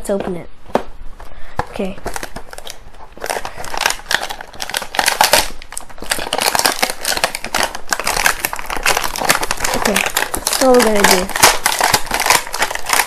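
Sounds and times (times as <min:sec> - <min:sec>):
plastic packaging being torn: 0:02.0 - 0:13.0.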